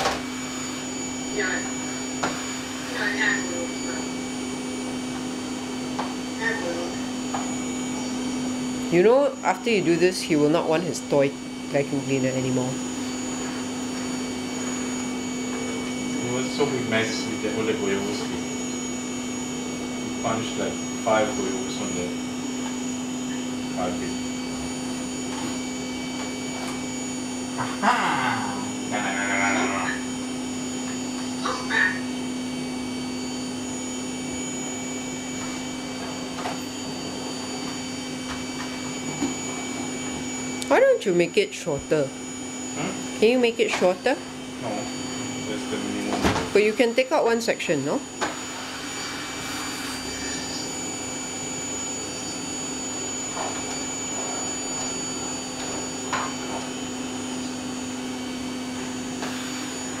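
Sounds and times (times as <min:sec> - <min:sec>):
vacuum cleaner running: 0:00.0 - 1:00.0.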